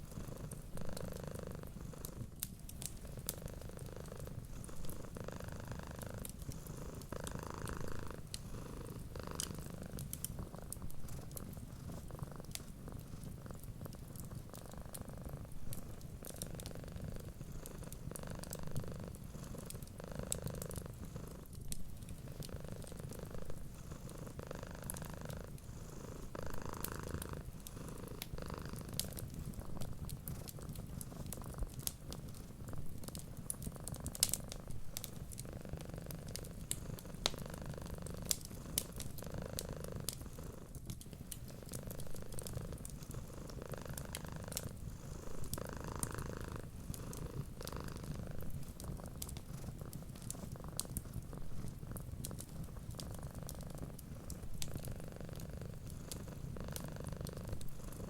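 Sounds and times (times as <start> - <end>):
cat purring: 0.0 - 58.0
wood fire crackling: 2.2 - 58.0.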